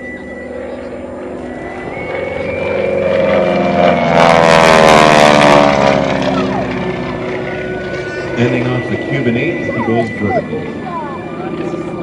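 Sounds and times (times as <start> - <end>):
propeller aircraft passing: 0.0 - 12.0.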